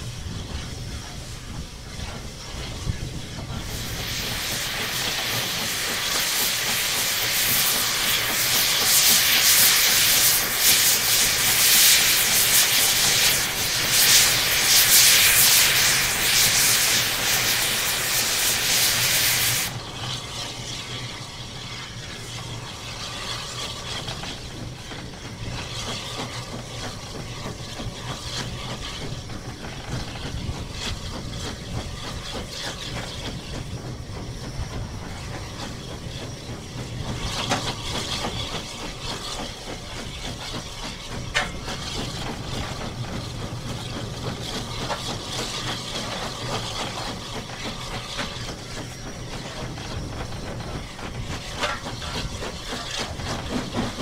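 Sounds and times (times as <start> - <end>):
steam hissing: 0.0 - 54.0
steam locomotive running: 0.0 - 54.0.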